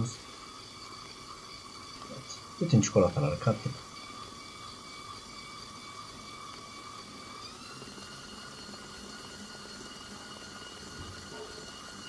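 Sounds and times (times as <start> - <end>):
stand mixer motor whine: 0.0 - 12.0.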